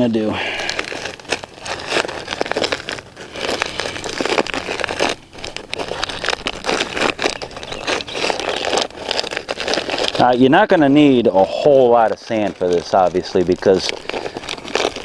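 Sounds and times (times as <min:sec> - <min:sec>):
stiff paper bag crinkling: 0:00.0 - 0:15.0.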